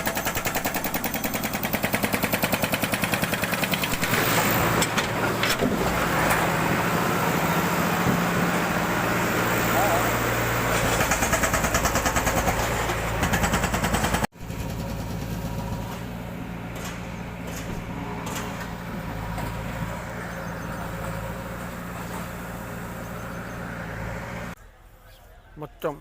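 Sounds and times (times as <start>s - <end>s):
engine idling: 0.0s - 24.6s.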